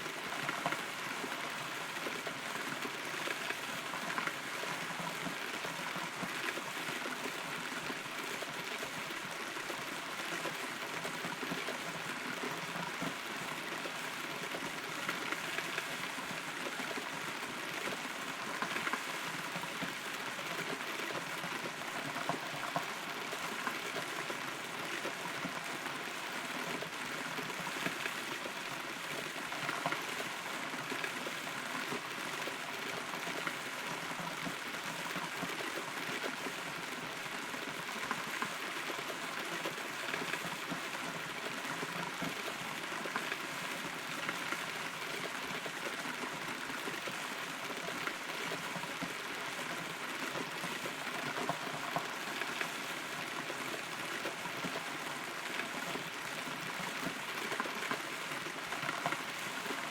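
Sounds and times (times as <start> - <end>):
rain pattering on hollow tree: 0.0 - 59.9.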